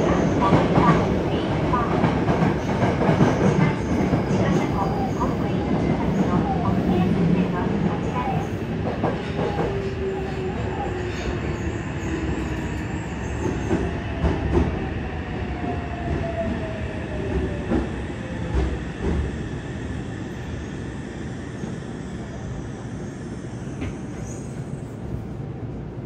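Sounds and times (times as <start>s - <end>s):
subway train running: 0.0s - 26.0s.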